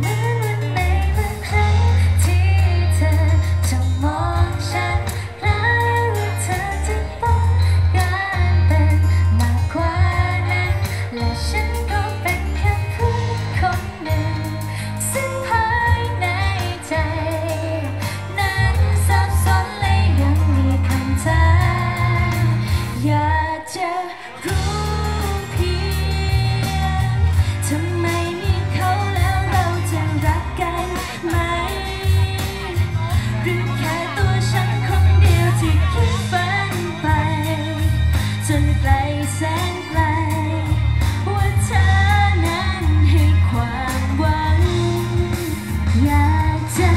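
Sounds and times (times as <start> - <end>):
female vocal group singing: 0.0 - 46.9
pop backing track with bass beat: 0.0 - 46.9.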